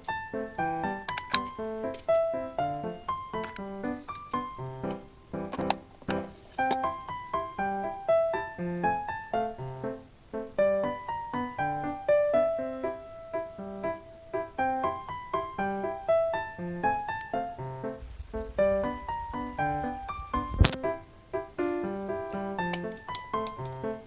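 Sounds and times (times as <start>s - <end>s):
light keyboard tune: 0.0s - 18.0s, 18.6s - 24.0s.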